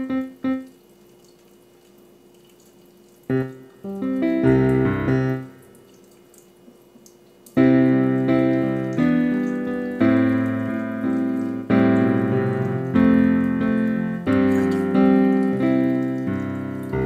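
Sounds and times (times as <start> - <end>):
piano chords: 0.0 - 1.3, 3.2 - 6.4, 7.4 - 17.0.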